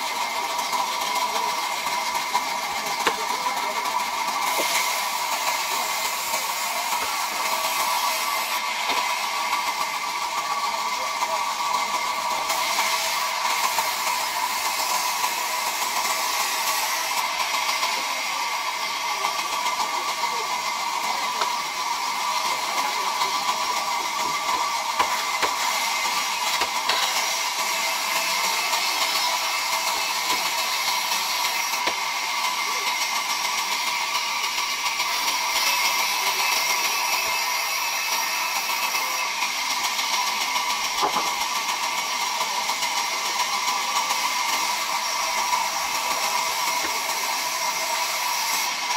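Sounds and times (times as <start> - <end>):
band saw cutting wood: 0.0 - 48.9.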